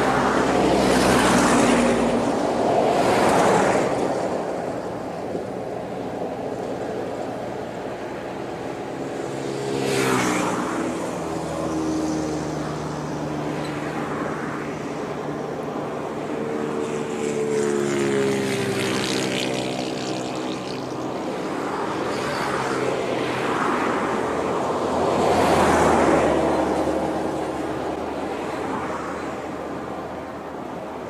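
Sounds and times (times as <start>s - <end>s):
jet engines droning: 0.0s - 31.0s.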